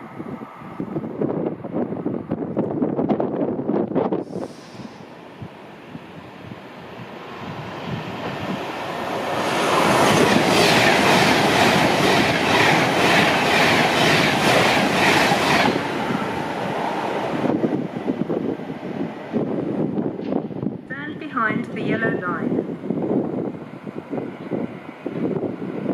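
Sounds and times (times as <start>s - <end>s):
train passing at speed: 0.0s - 25.9s.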